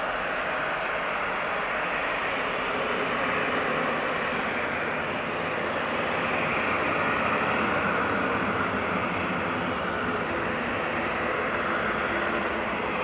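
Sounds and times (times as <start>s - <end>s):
jet engines at climb power: 0.0s - 13.0s.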